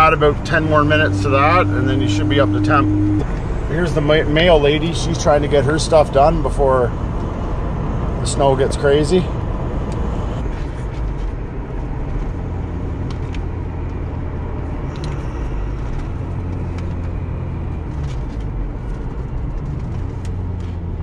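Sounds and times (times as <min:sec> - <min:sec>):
car engine drone inside cabin: 0:00.0 - 0:21.0.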